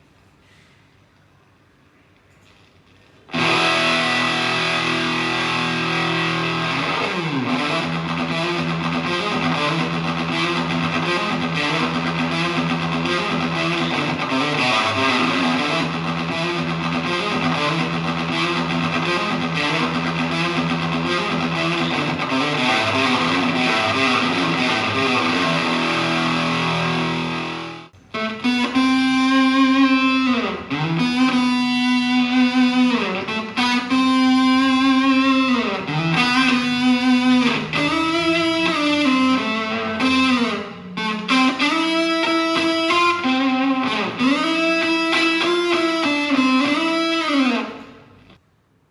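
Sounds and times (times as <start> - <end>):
fuzzed electric guitar riffing: 3.3 - 47.9.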